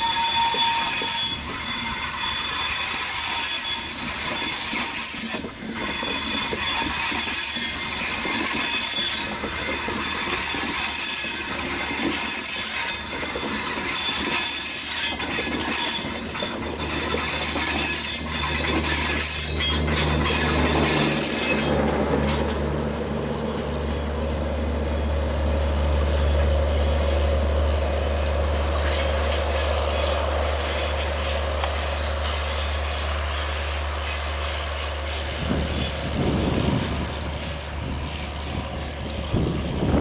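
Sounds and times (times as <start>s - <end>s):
wheel squeal: 0.0s - 22.6s, 24.2s - 40.0s
steel wheels rumbling on rail: 0.0s - 40.0s.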